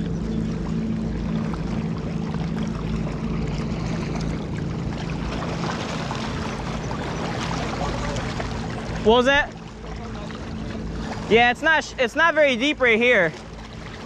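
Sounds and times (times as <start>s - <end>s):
motorboat engine droning: 0.0s - 14.0s
water rushing: 0.0s - 14.0s
wind: 0.0s - 14.0s.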